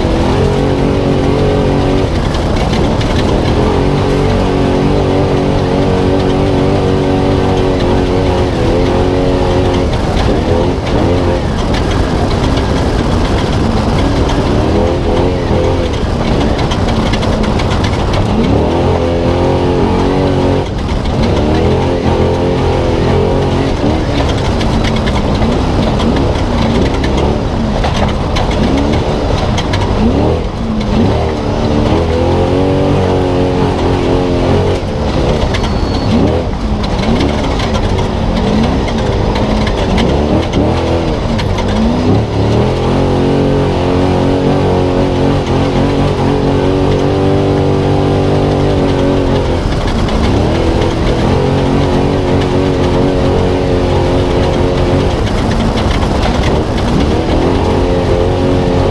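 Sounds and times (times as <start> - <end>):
truck engine revving: 0.0 - 58.9
truck rattling over terrain: 0.0 - 58.9.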